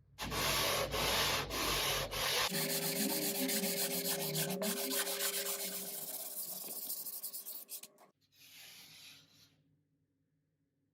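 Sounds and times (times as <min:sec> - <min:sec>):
sandpaper rubbing on plasterboard: 0:00.2 - 0:09.3.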